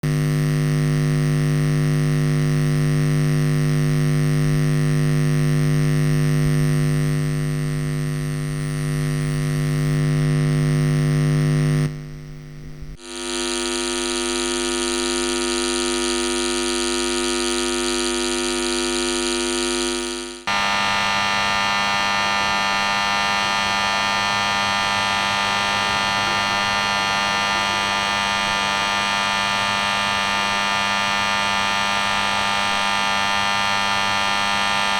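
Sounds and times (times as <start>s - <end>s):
traffic light electrical buzz: 0.1s - 34.9s.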